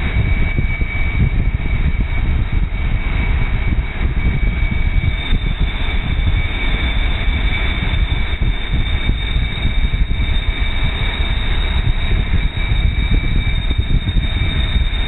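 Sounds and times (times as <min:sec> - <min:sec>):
steady high whine: 0:00.0 - 0:15.0
wind buffeting microphone: 0:00.0 - 0:15.0.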